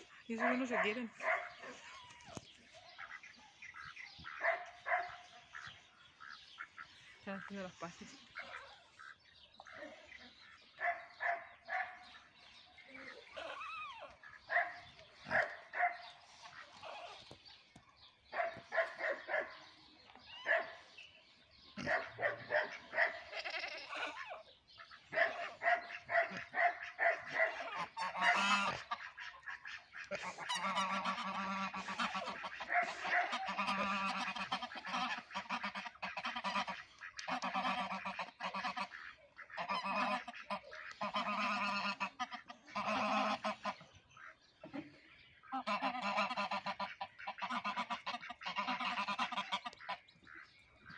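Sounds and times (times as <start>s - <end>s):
geese honking: 2.8s - 17.4s, 18.4s - 50.9s.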